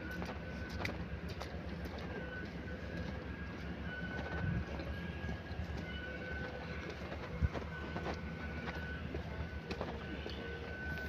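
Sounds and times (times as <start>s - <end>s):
rail vehicle rumbling: 0.0s - 11.0s
thin steady whine: 0.0s - 11.0s.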